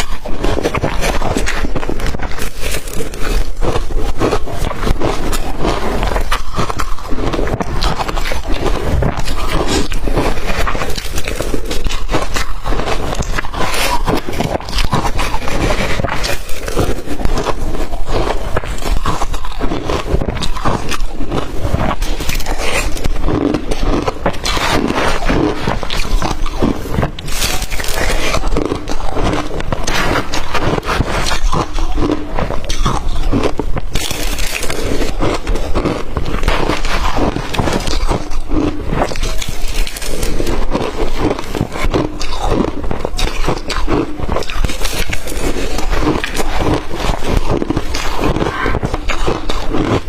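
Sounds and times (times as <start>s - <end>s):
chewing crushed ice: 0.0s - 50.0s.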